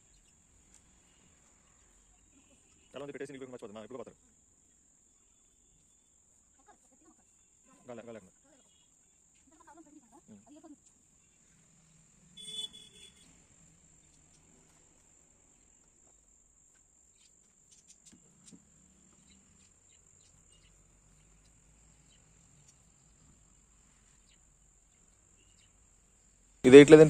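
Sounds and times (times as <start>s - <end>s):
crickets chirring: 0.2s - 27.0s.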